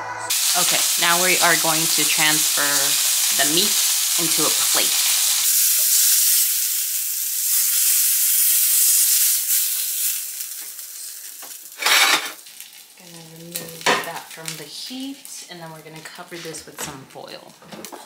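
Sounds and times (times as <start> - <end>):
steak sizzling in skillet: 0.3 - 16.6.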